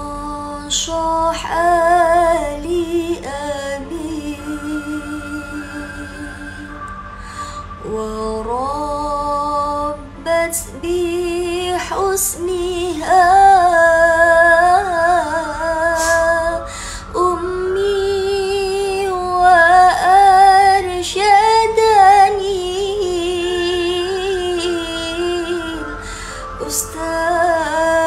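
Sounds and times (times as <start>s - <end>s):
woman singing slow song: 0.0s - 28.0s.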